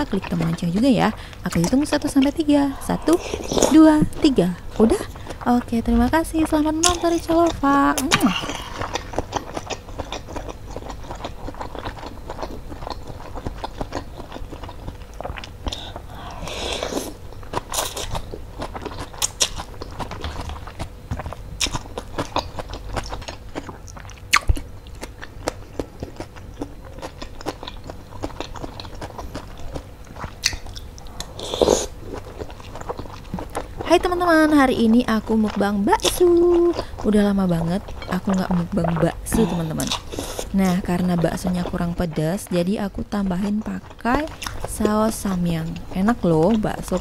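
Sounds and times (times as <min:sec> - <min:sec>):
wet chewing with mouth clicks: 0:00.0 - 0:47.0.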